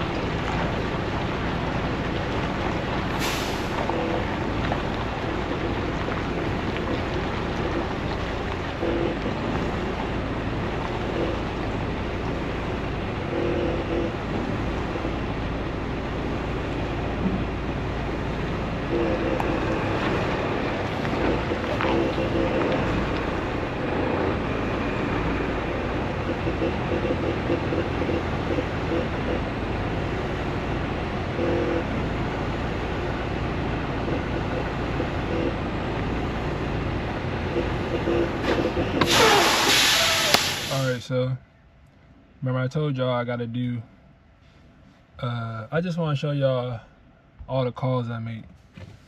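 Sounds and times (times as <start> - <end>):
truck engine rumbling: 0.0 - 49.0.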